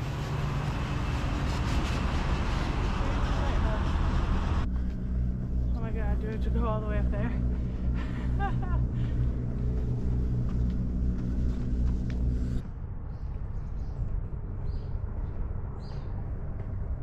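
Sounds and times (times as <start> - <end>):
low engine hum: 0.0 - 17.0
open-air noise: 0.0 - 17.0.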